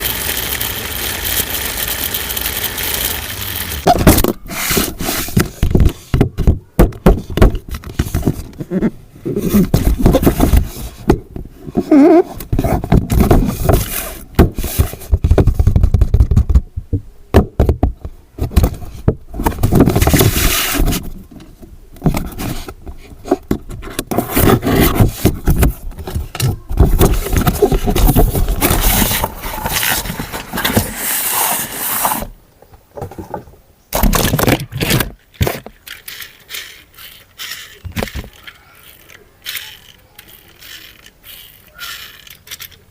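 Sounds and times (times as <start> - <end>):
scraping and crackling handling noises: 0.0 - 16.6, 17.7 - 42.9.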